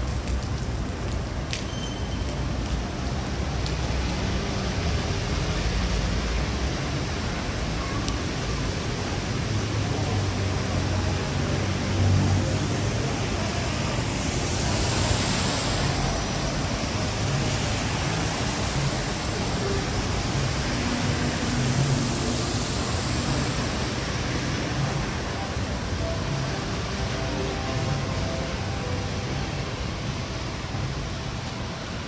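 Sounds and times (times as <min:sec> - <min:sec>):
heavy rain falling: 0:00.0 - 0:32.0
low traffic rumble: 0:00.0 - 0:32.0.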